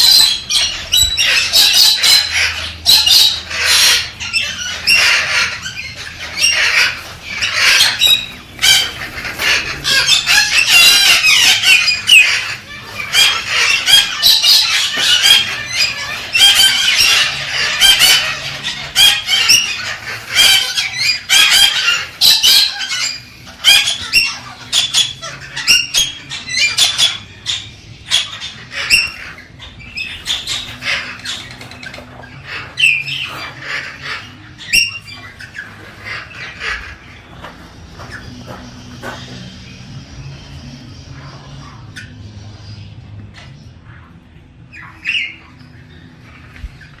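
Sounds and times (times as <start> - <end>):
cockatoo chirps and screeches: 0.0 - 47.0.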